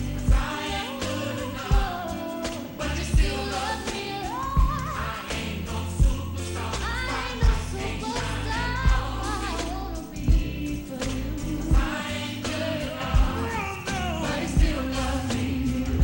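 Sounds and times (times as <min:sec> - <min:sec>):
heavy low drum beat: 0:00.0 - 0:00.7, 0:01.7 - 0:02.1, 0:03.0 - 0:03.7, 0:04.4 - 0:16.0
gospel singing: 0:00.0 - 0:16.0
steady bass line: 0:00.0 - 0:16.0.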